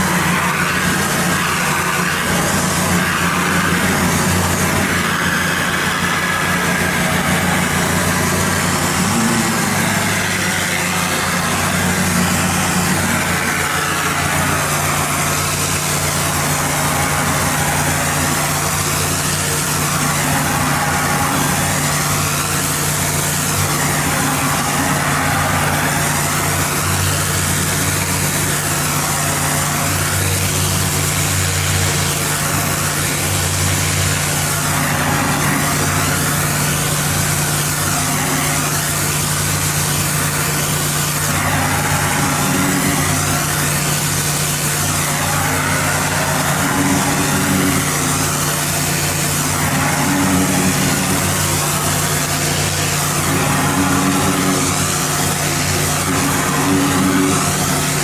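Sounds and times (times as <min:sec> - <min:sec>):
high-pressure water spray hissing: 0:00.0 - 0:58.0
pressure washer engine running: 0:00.0 - 0:58.0.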